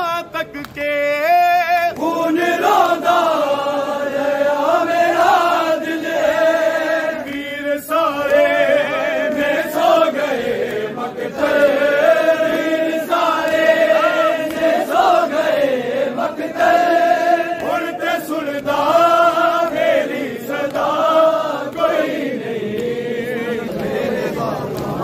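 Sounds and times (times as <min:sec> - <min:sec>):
men chanting a lament: 0:00.0 - 0:25.0.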